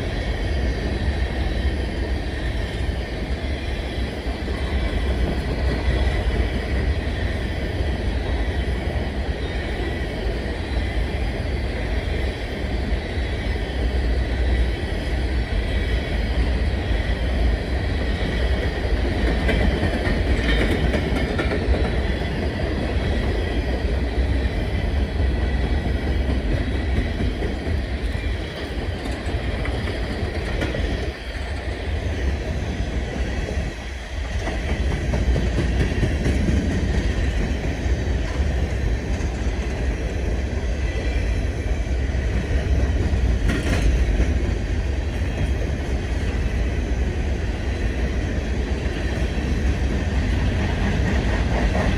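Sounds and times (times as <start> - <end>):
freight train wheels rumbling: 0.0 - 51.9.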